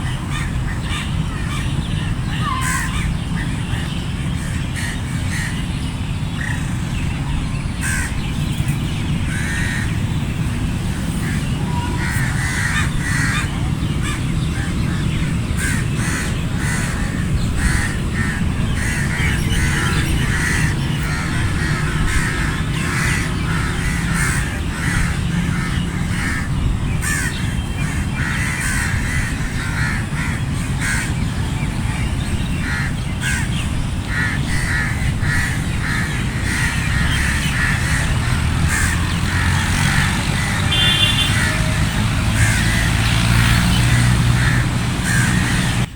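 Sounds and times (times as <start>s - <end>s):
crows cawing: 0.0s - 5.6s, 7.8s - 8.2s, 9.2s - 10.3s, 11.0s - 31.2s, 32.6s - 45.9s.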